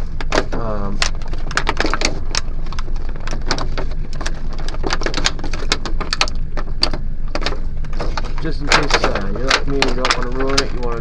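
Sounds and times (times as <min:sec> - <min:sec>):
plastic packaging crinkling: 0:00.0 - 0:11.0
steady low rumble: 0:00.0 - 0:11.0.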